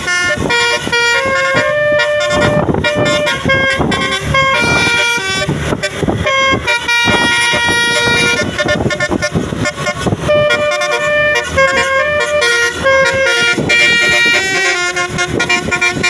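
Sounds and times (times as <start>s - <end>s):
multi-tone bus horn tune: 0.0s - 16.0s.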